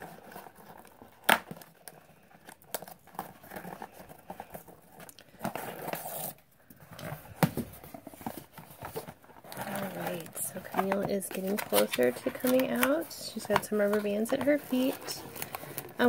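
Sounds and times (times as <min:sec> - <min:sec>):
cardboard and plastic rustling: 0:00.0 - 0:16.0.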